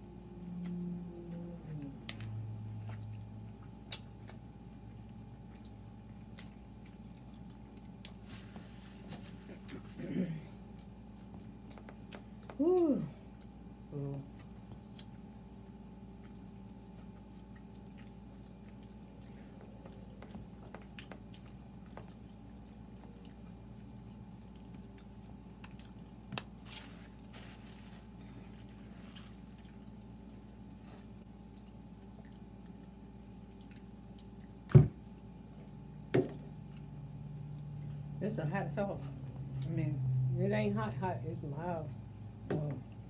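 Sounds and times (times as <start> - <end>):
wet chewing and smacking: 0.3 - 10.0, 10.6 - 12.6, 13.3 - 38.2.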